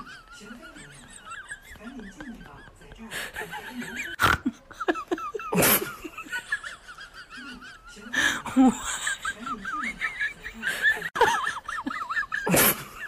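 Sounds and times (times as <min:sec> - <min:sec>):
wheezing human laughter: 0:00.0 - 0:13.0.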